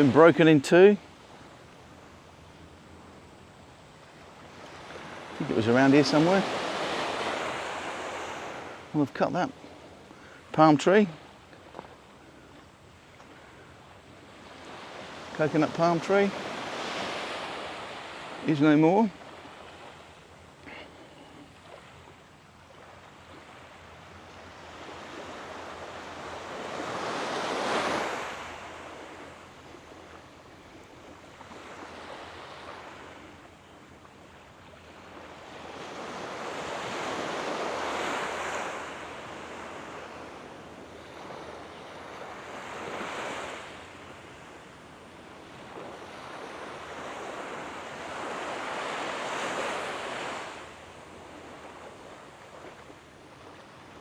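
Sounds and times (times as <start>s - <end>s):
waves washing on sand: 0.0s - 54.0s.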